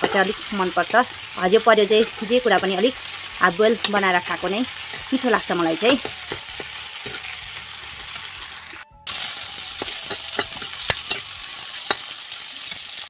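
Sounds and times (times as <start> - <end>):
metal spatula scraping a pan: 0.0 - 8.8, 9.5 - 12.9
vegetables sizzling in a pan: 0.0 - 13.0.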